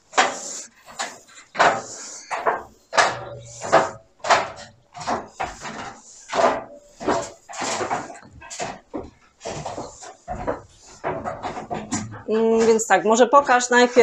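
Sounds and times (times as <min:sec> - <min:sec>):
footsteps on metal stairs: 0:00.0 - 0:14.0.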